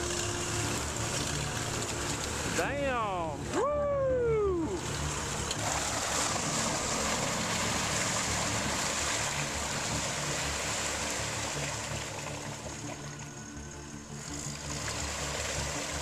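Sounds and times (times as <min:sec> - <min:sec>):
engine droning: 0:00.0 - 0:16.0
mud and water splashing: 0:00.0 - 0:16.0.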